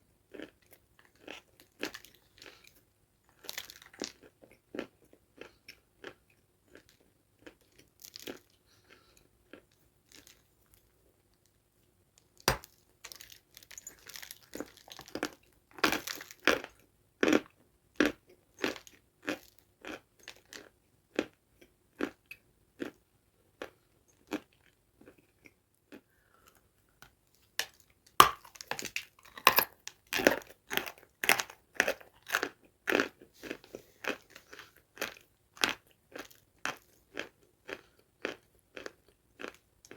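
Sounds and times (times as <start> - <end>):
chewing crunchy food: 0.3 - 10.9, 12.4 - 39.9.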